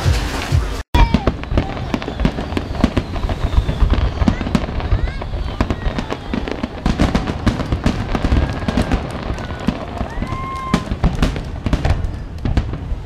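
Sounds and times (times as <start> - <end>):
fireworks crackling: 0.0 - 13.0
firework shells booming: 1.0 - 13.0.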